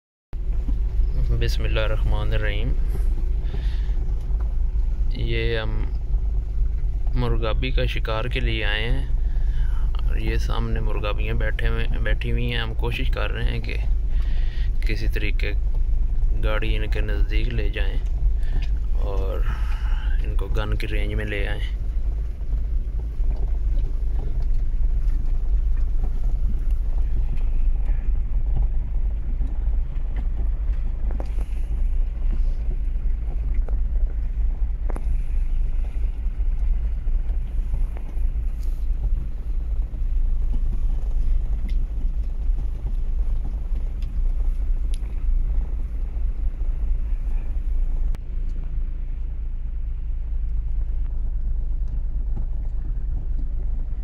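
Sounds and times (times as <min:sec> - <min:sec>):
low engine and driving rumble: 0:00.3 - 0:54.0.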